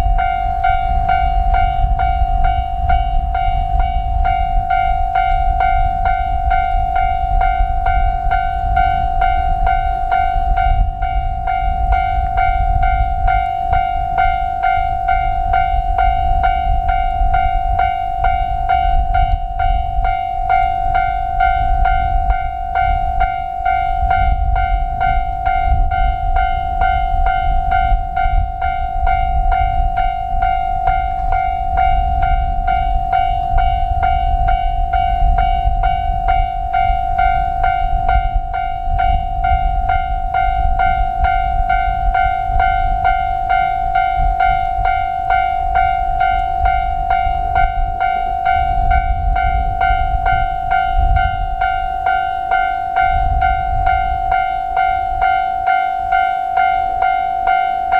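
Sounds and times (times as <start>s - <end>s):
level crossing electronic bell: 0.0s - 57.9s
railcar low rumble: 0.0s - 57.9s.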